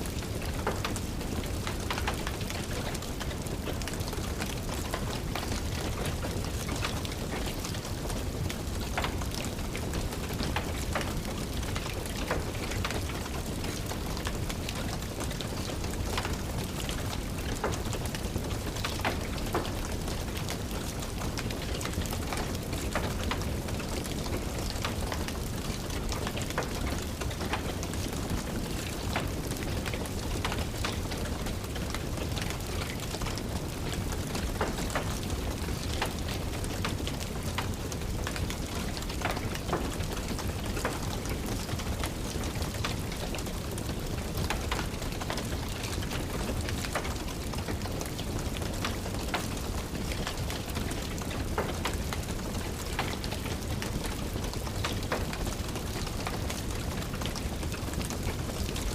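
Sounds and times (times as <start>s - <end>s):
steady rain: 0.0s - 58.9s
wood fire crackling: 0.0s - 58.9s.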